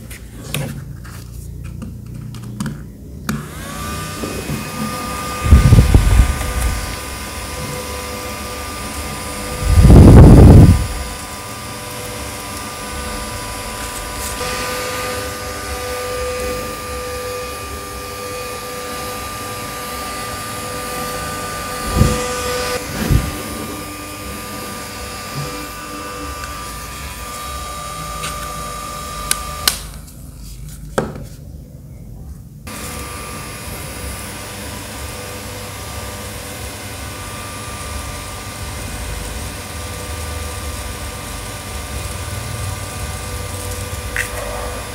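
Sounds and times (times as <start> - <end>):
mini fans whirring: 0.0 - 44.9.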